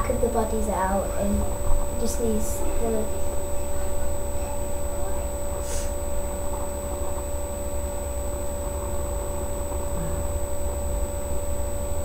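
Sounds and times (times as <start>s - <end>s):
low rumble and electrical hum: 0.0s - 12.0s
thin high whine: 0.0s - 12.0s.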